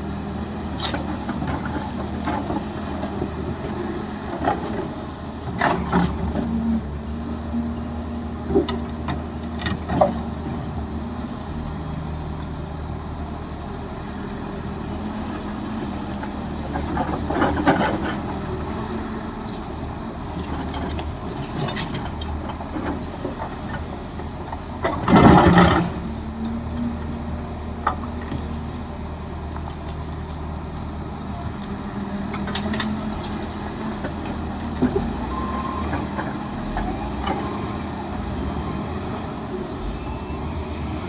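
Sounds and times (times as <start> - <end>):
heavy machinery diesel engine: 0.0 - 41.0.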